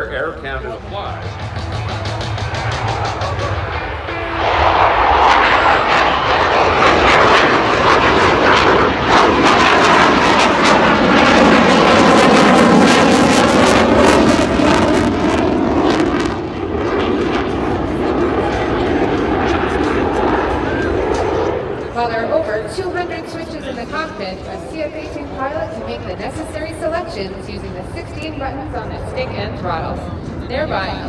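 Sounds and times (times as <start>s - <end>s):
fighter jet roaring past: 0.0s - 31.0s.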